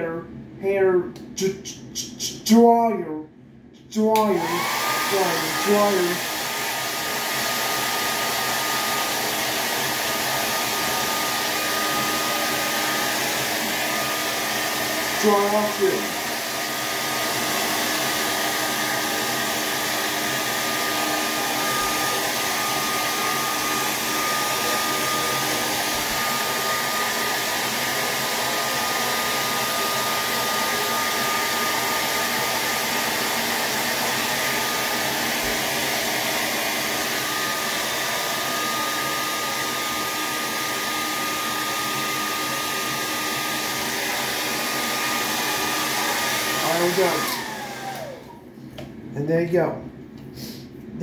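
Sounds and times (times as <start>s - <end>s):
hair dryer running: 3.9s - 49.0s.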